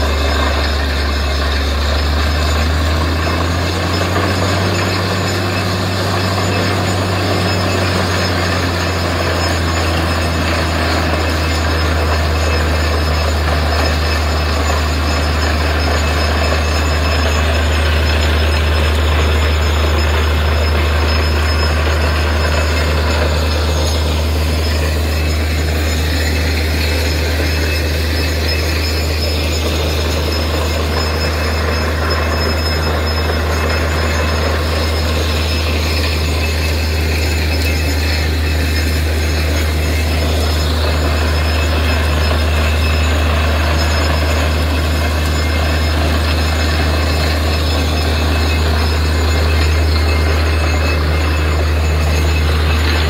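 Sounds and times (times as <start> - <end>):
drilling rig engine drone: 0.0 - 53.0
rough mechanical noise: 0.0 - 53.0.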